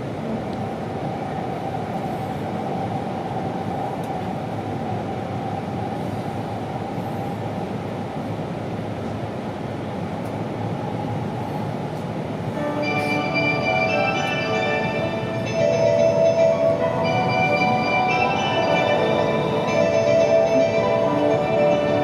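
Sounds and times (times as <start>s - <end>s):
train cabin rumble and rush: 0.0s - 22.0s.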